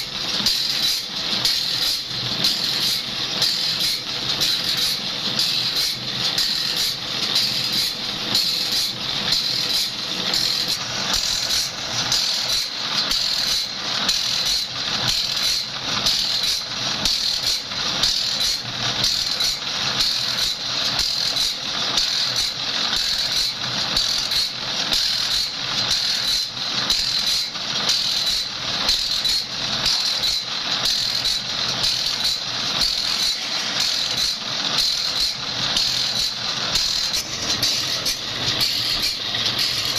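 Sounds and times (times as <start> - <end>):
rhythmic grinding of saw blade: 0.0 - 39.9.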